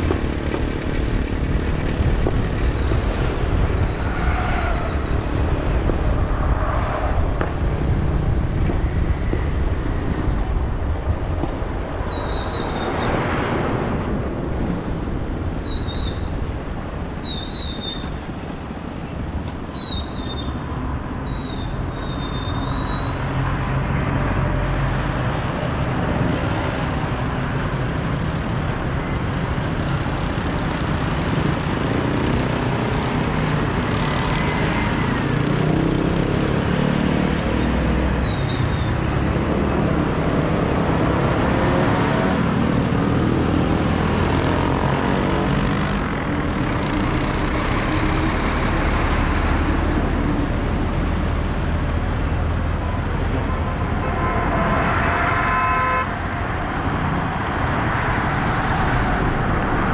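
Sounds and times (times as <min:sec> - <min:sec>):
traffic rumble of engines and tyres: 0:00.0 - 0:59.9.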